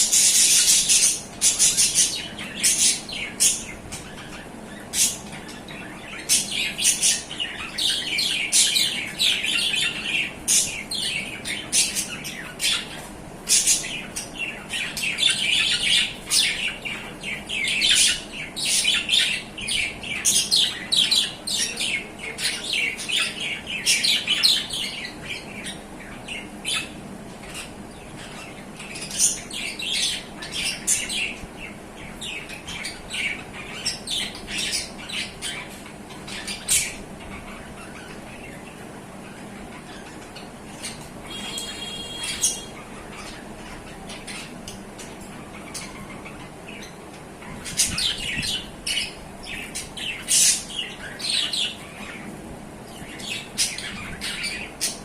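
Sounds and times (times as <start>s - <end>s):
budgerigars chirping and warbling: 0.0s - 55.0s.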